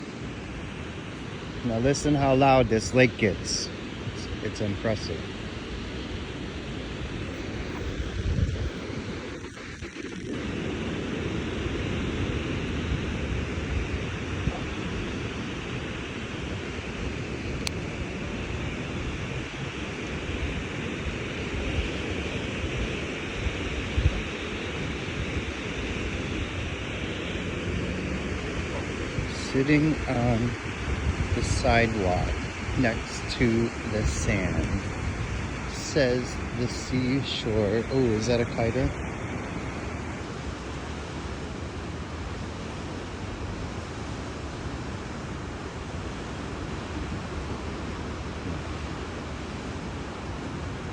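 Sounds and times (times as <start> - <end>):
waves crashing on beach: 0.0 - 50.9
wind buffeting microphone: 0.0 - 50.9.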